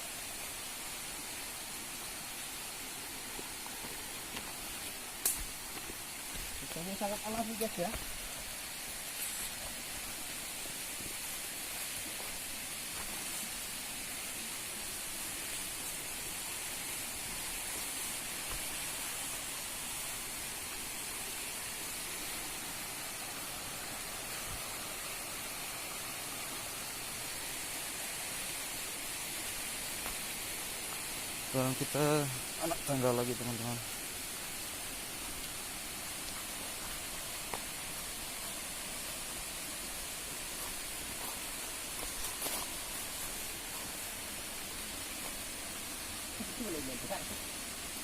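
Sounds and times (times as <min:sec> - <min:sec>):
stream water rushing: 0:00.0 - 0:48.0.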